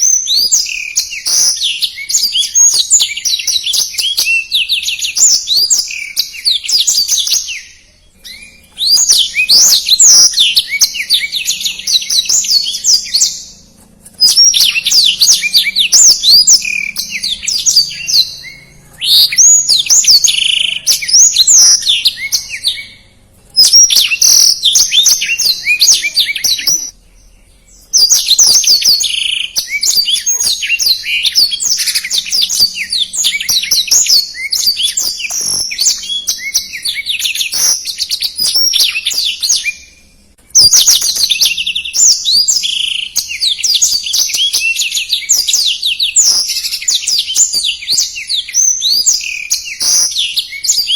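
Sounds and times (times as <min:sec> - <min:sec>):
canary singing fast twittering song: 0:00.0 - 0:50.9.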